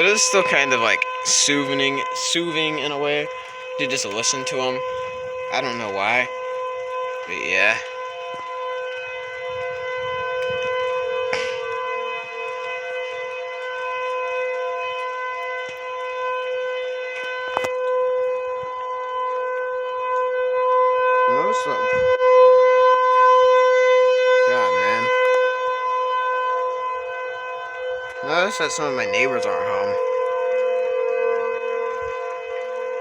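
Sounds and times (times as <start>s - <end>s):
warning siren steady tone: 0.0s - 33.0s.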